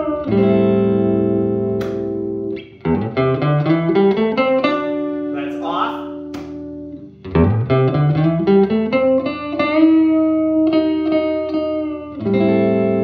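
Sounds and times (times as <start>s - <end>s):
overdriven electric guitar: 0.0s - 13.0s.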